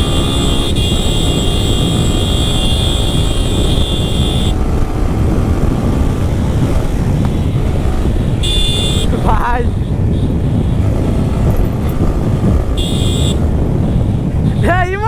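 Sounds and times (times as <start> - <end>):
motorcycle engine running: 0.0 - 14.7
wind buffeting microphone: 0.0 - 15.0.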